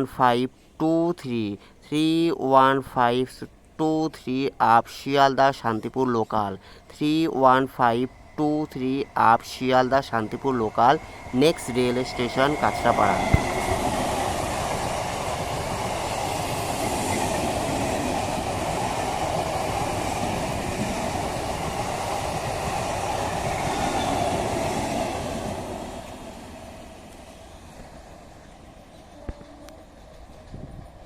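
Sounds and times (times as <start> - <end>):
train passing: 1.2 - 31.0.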